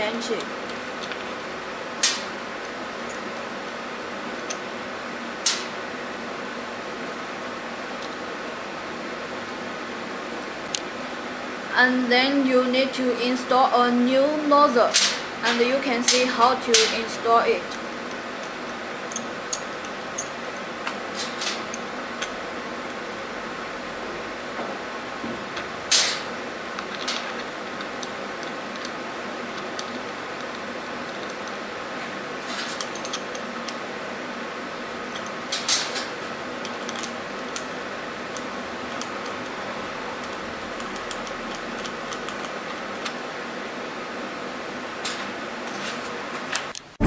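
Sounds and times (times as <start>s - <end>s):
steady fan hum: 0.0s - 47.0s.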